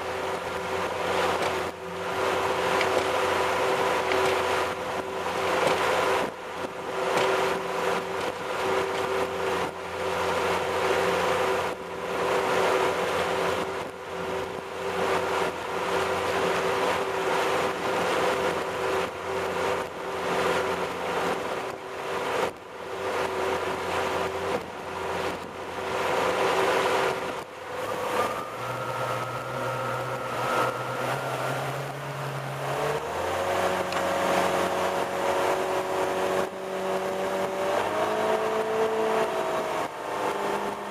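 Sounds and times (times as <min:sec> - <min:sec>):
boat engine running: 0:00.0 - 0:40.9
wake rushing: 0:00.0 - 0:40.9
wind: 0:00.0 - 0:40.9.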